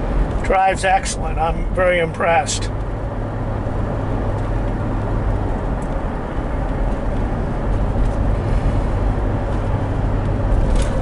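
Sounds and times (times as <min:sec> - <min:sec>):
car engine running: 0:00.0 - 0:11.0
road and tyre rumble: 0:00.0 - 0:11.0.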